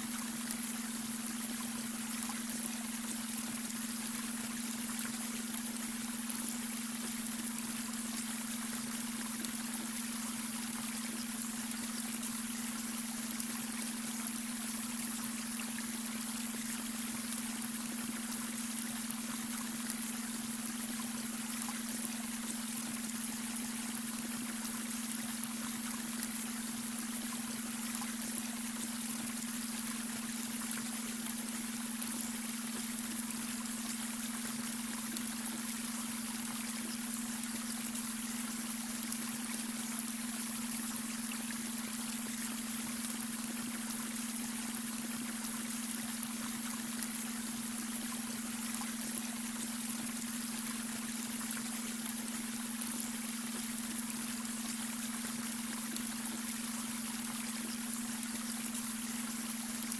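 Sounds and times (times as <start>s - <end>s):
brook water rushing and trickling: 0.0s - 59.9s
steady low hum tone: 0.0s - 59.9s.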